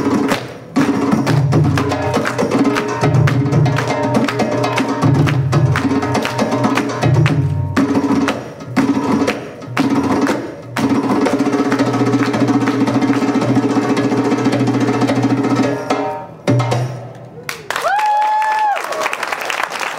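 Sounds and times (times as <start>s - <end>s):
hand drum solo: 0.0s - 17.0s.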